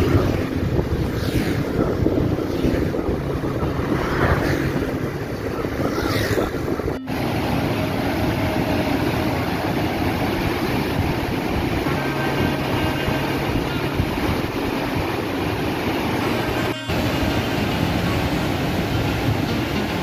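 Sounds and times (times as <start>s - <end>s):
motorcycle engine and road noise: 0.0s - 20.0s
wind rushing over microphone: 0.0s - 20.0s.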